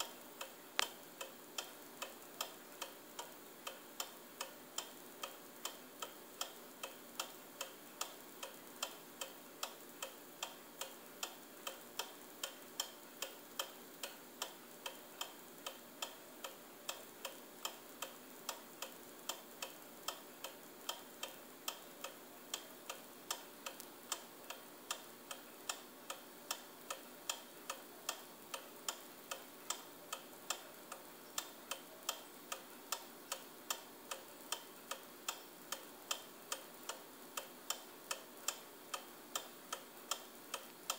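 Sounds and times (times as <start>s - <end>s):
pendulum clock ticking: 0.0s - 40.9s.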